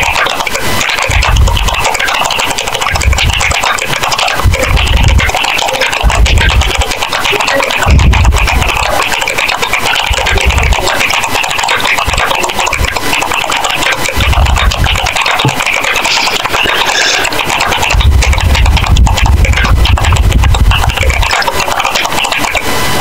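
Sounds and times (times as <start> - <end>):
rapid keyboard typing: 0.0 - 23.0.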